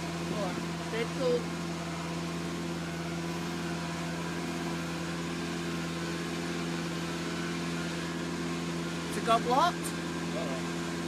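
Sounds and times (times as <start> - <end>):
engine and vacuum pump humming: 0.0 - 11.0.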